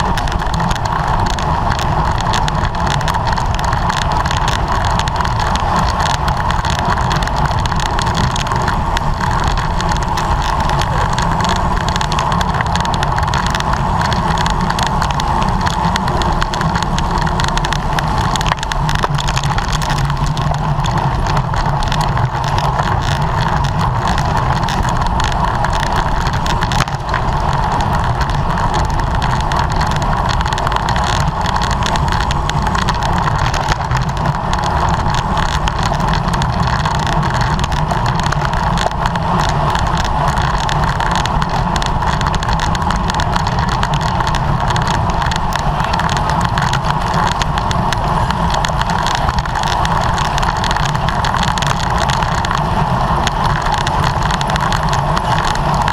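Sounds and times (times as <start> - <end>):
road noise rumble: 0.0 - 55.9
wind rush on microphone: 0.0 - 55.9.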